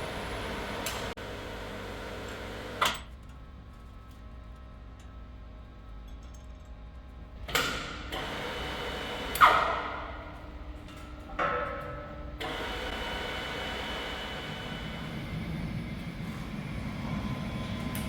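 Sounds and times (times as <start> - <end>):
low workshop hum: 0.0 - 18.0.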